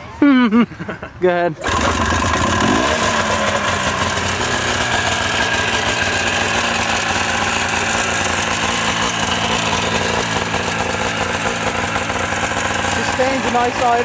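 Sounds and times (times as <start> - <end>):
snowmobile engine idling: 1.6 - 14.0.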